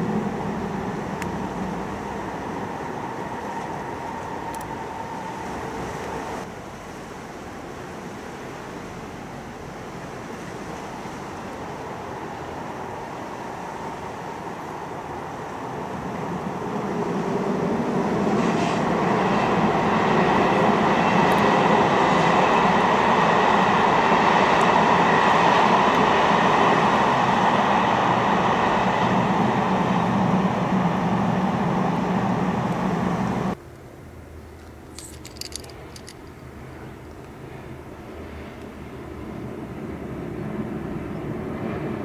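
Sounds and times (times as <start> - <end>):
electric train rumbling past: 0.0 - 33.6, 35.0 - 42.0.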